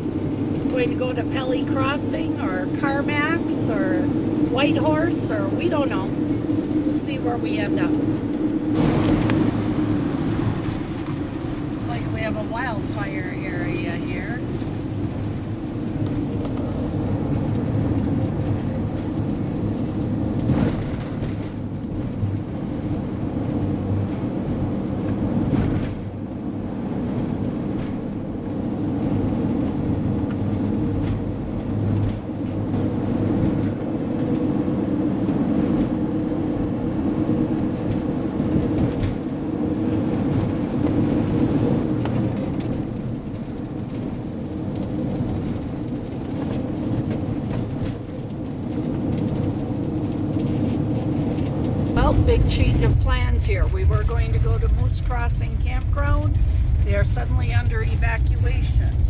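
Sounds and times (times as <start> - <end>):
motorhome engine: 0.0 - 59.0
road noise: 0.0 - 59.0.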